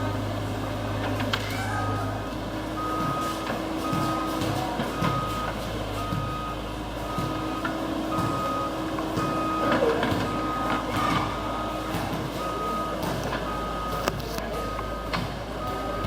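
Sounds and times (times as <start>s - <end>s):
diesel engine running: 0.0s - 16.0s
excavator travel alarm beeping: 0.0s - 16.0s.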